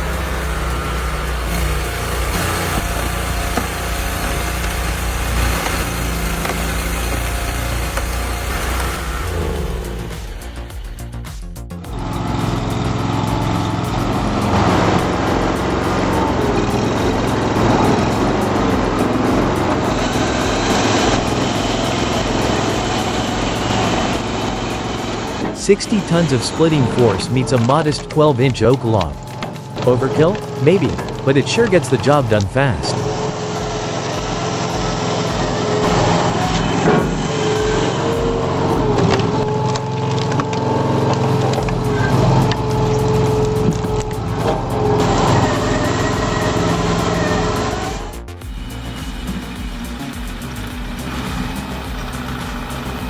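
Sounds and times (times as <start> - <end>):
log splitter engine running: 0.0 - 53.0.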